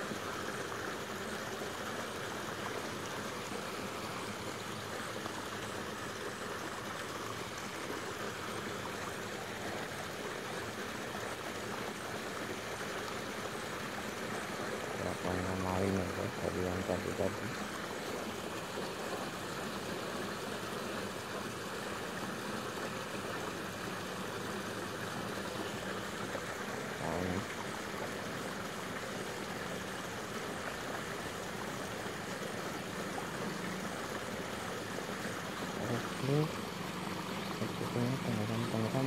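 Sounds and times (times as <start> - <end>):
rushing outdoor background noise: 0.0 - 39.0.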